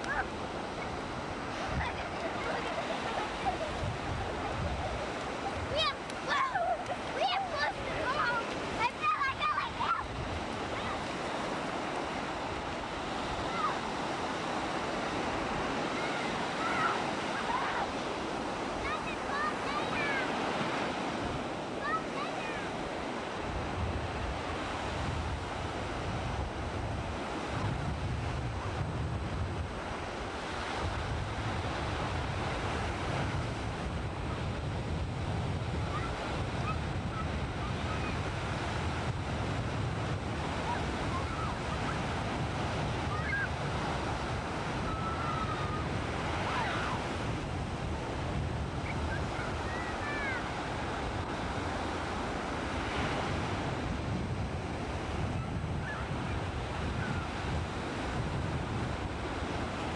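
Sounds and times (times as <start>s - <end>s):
ocean surf breaking: 0.0s - 59.9s
wind rumble on microphone: 0.0s - 59.9s.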